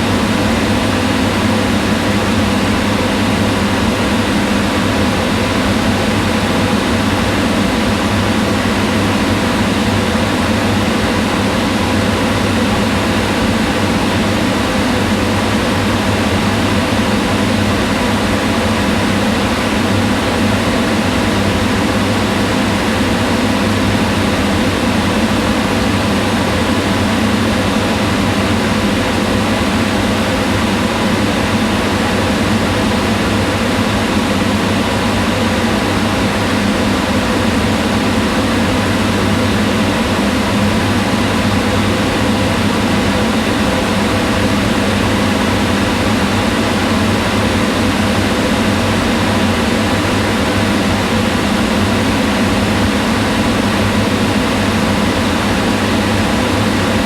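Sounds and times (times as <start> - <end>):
range hood fan whirring: 0.0 - 57.0.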